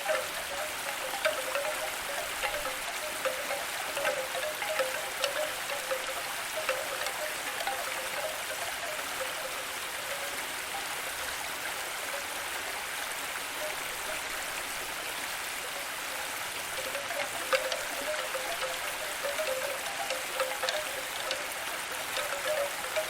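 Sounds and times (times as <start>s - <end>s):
water drips: 0.0s - 12.9s, 13.6s - 23.0s
running water hiss: 0.0s - 23.0s.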